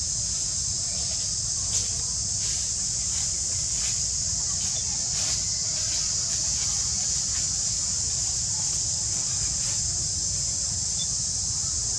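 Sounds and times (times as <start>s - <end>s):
cicadas singing: 0.0s - 11.9s.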